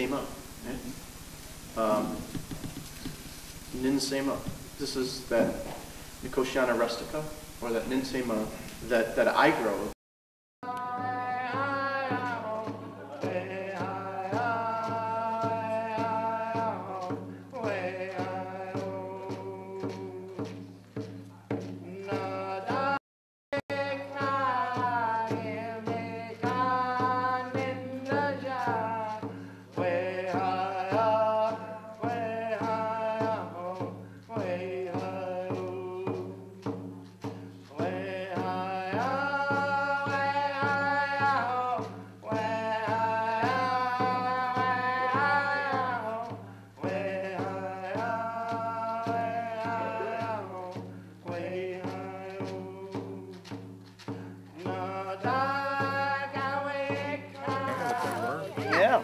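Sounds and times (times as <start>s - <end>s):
person singing chant-like melody: 1.8s - 2.6s, 10.6s - 23.0s, 23.7s - 59.0s.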